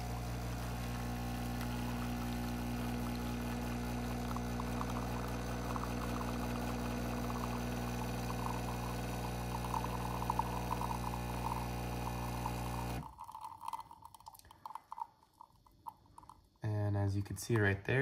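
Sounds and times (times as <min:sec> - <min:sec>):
espresso machine pump humming: 0:00.0 - 0:14.8
espresso trickling into glass cup: 0:00.0 - 0:16.4.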